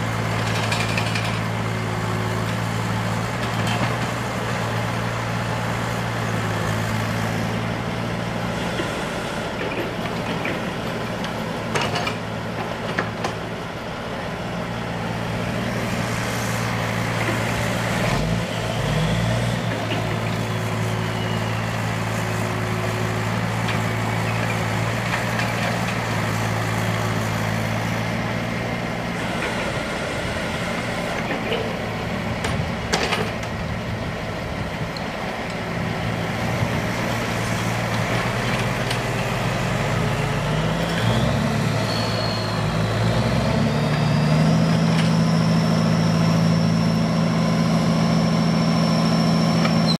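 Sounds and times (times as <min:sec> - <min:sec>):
crane engine running: 0:00.0 - 0:50.0.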